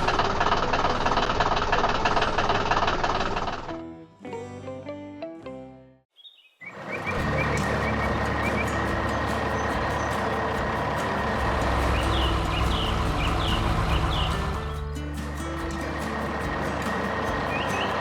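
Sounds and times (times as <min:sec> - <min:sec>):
heavy engine starting and running: 0:00.0 - 0:03.8, 0:06.8 - 0:18.0.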